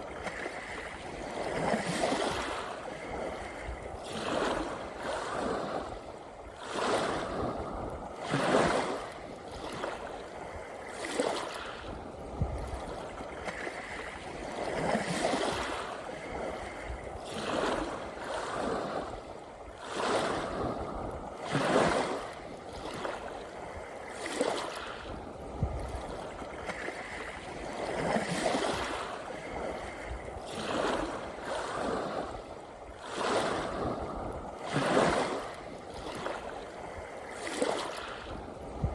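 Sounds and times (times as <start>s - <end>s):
small waves washing onto shore: 0.0s - 38.9s.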